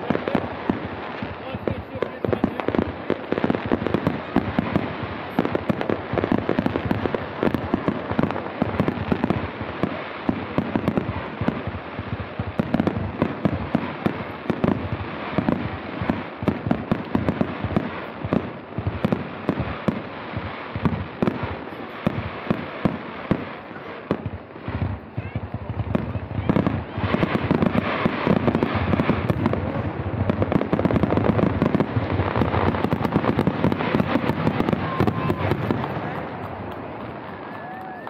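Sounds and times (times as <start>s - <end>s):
fireworks bursting: 0.0s - 38.0s.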